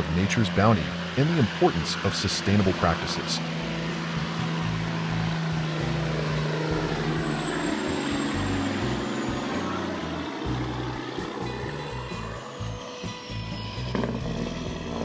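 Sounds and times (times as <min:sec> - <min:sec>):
truck diesel engine driving: 0:00.0 - 0:15.0.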